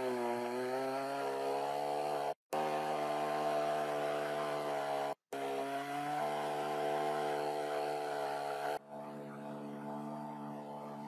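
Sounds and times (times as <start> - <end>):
chainsaw cutting: 0.0 - 11.0.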